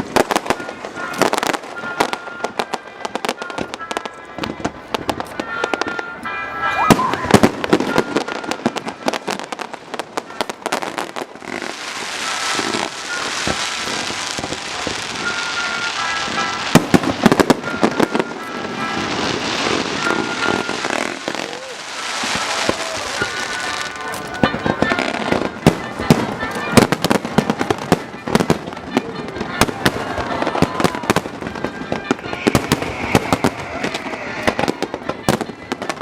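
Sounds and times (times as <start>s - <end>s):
fireworks banging and cracking: 0.0s - 36.0s
fireworks whistling: 0.0s - 36.0s
fireworks crackling hiss: 6.7s - 36.0s.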